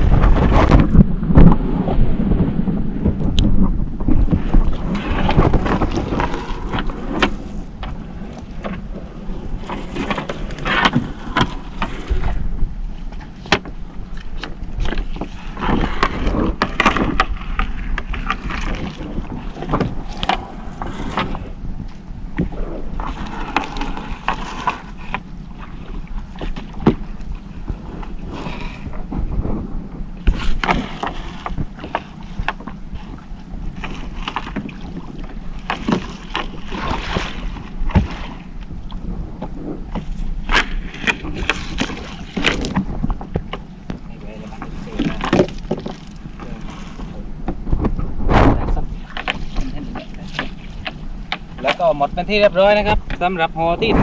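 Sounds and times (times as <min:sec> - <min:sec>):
low steady rumble: 0:00.0 - 0:54.0
wind buffeting microphone: 0:00.0 - 0:54.0.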